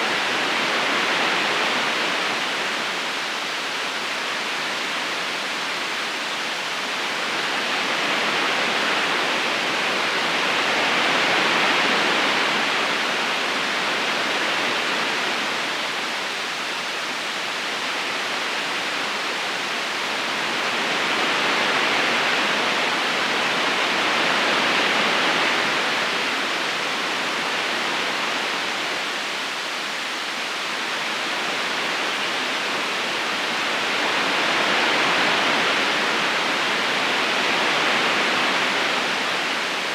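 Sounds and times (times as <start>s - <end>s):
river rushing over stones: 0.1s - 39.9s.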